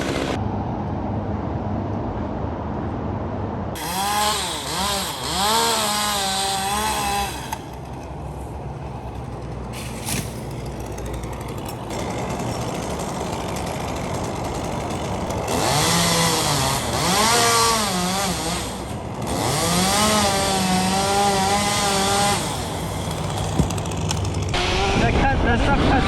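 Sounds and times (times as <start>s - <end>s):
chainsaw cutting wood: 0.0s - 0.4s, 3.8s - 24.9s.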